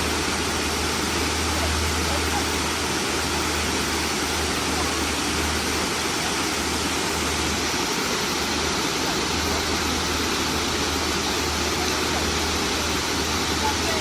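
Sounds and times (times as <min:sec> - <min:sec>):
waterfall rushing and splashing: 0:00.0 - 0:14.0.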